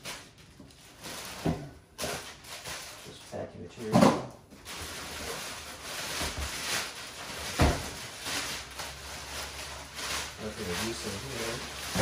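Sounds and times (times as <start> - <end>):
packing material rustling: 0.0 - 3.8, 4.6 - 12.0.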